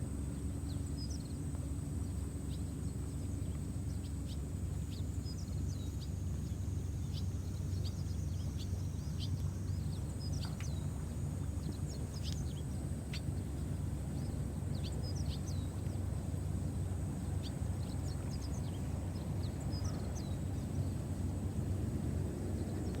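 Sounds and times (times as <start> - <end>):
low outdoor rumble: 0.0 - 23.0
small birds chirping: 0.2 - 21.1.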